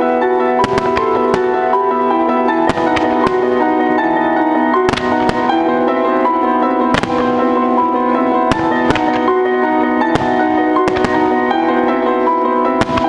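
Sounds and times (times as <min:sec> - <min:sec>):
fireworks bursting with sharp bangs: 0:00.0 - 0:13.0
piano music: 0:00.0 - 0:13.0.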